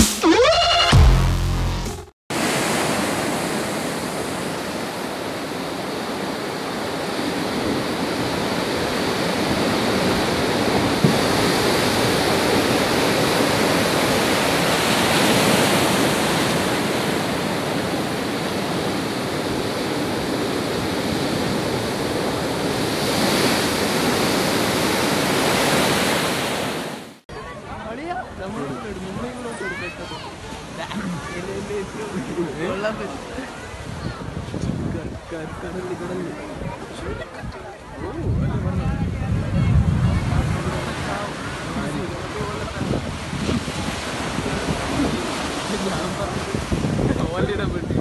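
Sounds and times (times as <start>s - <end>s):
waves breaking against a pier: 2.4s - 48.0s.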